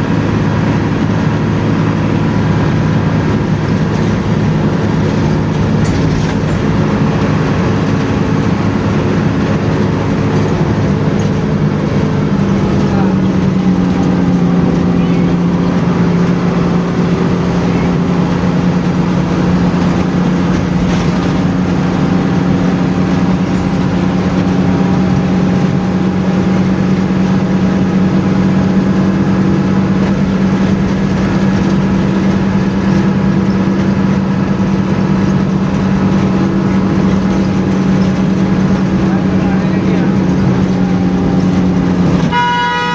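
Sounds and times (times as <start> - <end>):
bus engine droning: 0.0 - 42.9
road and tyre noise: 0.0 - 42.9.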